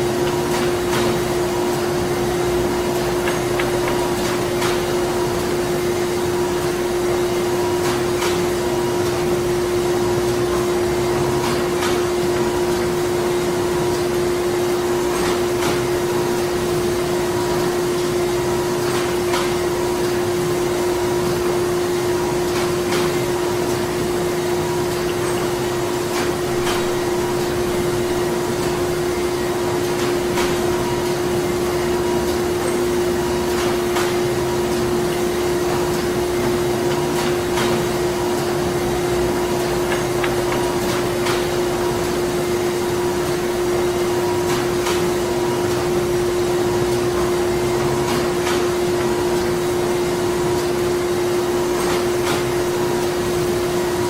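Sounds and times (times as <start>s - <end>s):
factory machinery droning: 0.0s - 54.0s.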